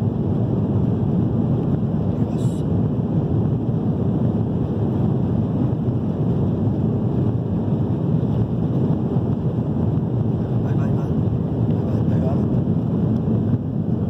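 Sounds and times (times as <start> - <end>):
jet engines roaring in cabin: 0.0 - 14.0.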